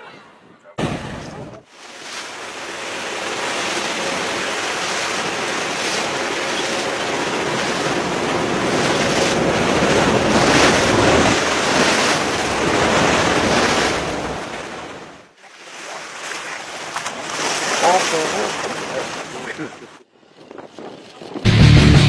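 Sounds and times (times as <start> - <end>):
sea waves rushing: 0.8 - 20.0.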